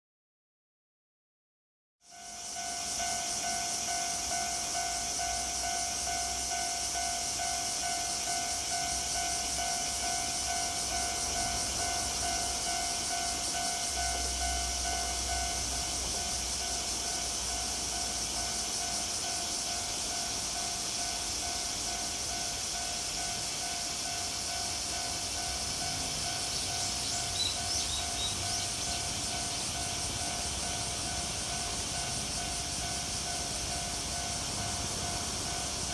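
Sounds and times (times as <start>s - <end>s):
cicadas droning: 2.0s - 35.9s
level-crossing warning bell ringing: 2.0s - 35.9s.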